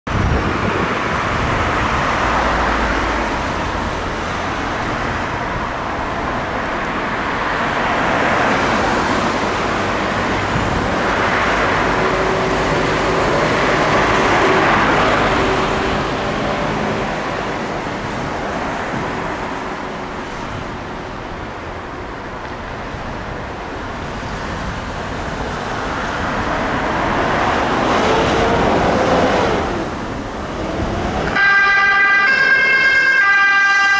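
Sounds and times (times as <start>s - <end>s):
vehicles passing: 0.1s - 33.9s.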